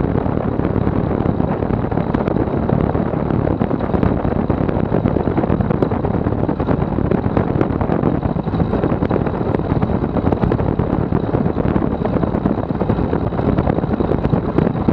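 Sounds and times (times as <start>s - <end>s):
airplane engine running: 0.0s - 14.9s
wind buffeting microphone: 0.0s - 14.9s.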